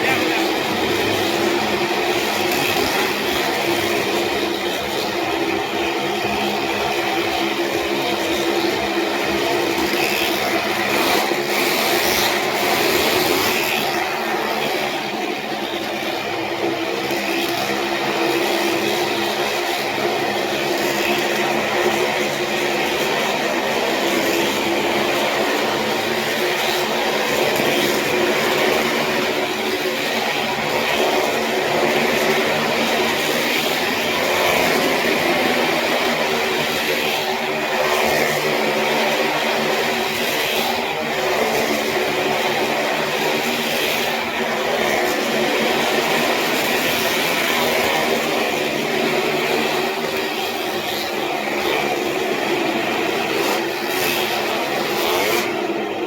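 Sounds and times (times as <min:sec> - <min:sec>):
motorcycle and car engines droning: 0:00.0 - 0:56.0.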